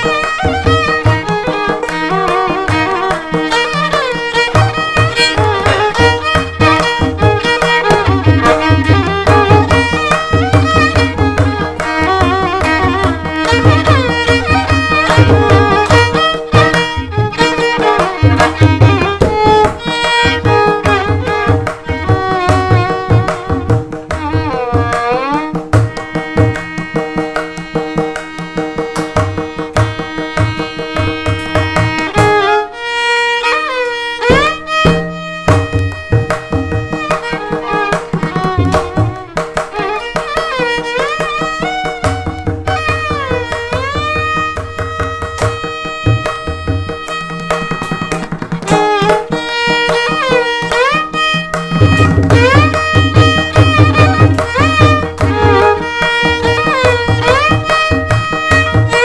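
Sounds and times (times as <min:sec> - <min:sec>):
hand drum beats: 0:00.0 - 0:59.0
violin melody with sliding notes: 0:00.0 - 0:59.0.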